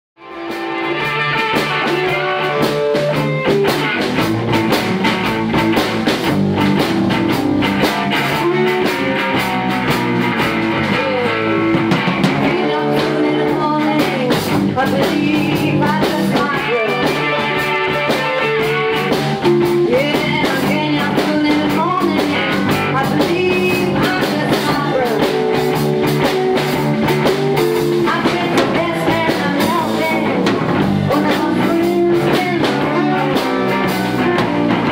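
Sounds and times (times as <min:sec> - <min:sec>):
bass: 0:00.2 - 0:34.9
drums: 0:00.2 - 0:34.9
electric guitar: 0:00.2 - 0:34.9
slide guitar: 0:00.2 - 0:34.9.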